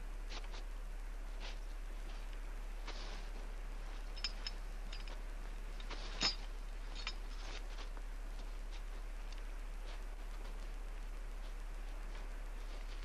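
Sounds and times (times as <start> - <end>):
low hum: 0.0 - 13.0
rope rustling: 1.4 - 13.0.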